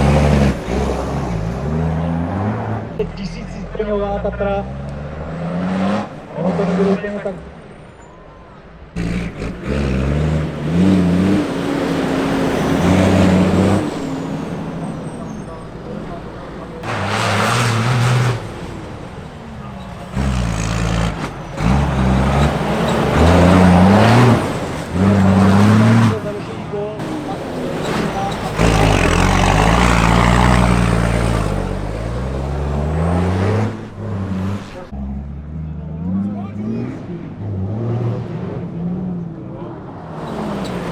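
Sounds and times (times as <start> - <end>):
diesel truck engine revving: 0.0 - 40.9.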